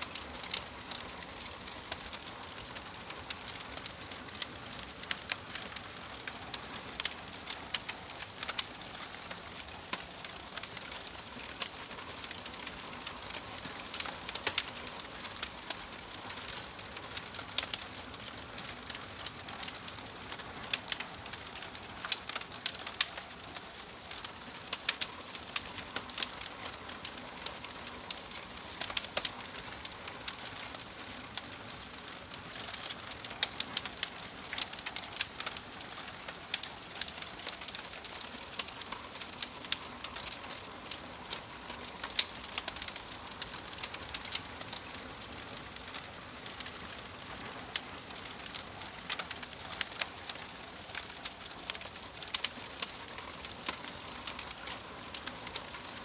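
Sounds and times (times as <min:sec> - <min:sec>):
fire popping and snapping: 0:00.0 - 0:56.0
soft fire hiss: 0:00.0 - 0:56.0.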